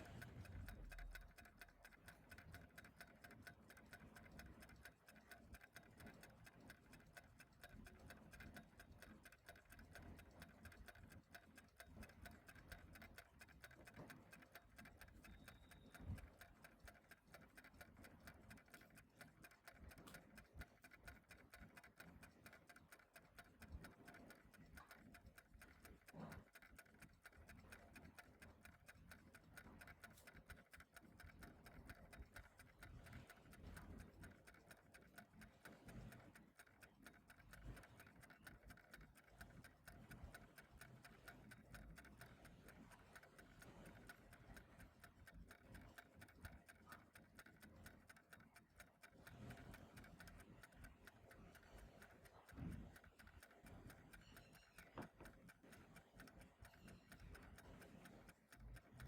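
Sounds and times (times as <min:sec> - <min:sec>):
faint clock ticking: 0:00.0 - 0:59.0.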